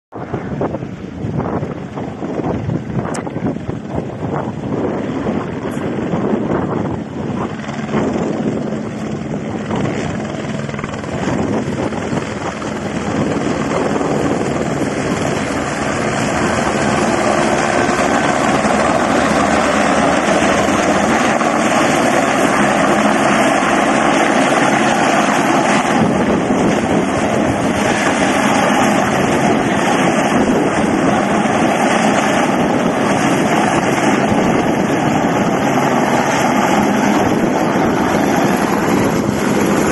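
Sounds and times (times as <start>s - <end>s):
helicopter rotor and turbine roar: 0.1s - 39.9s
wind buffeting microphone: 0.1s - 39.9s.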